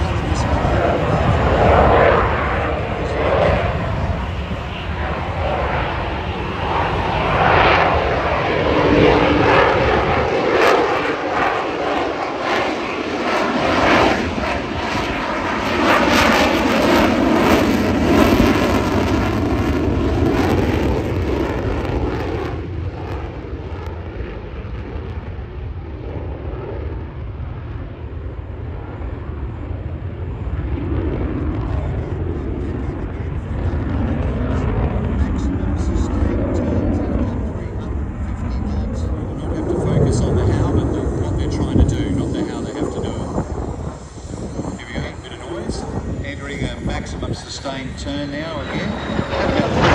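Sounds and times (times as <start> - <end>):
jet engine roar with crackle: 0.0 - 49.9.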